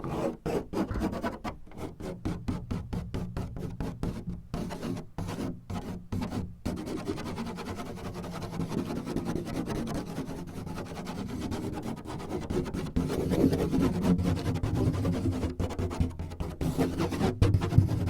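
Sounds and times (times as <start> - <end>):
hand scratching a surface: 0.0 - 18.0.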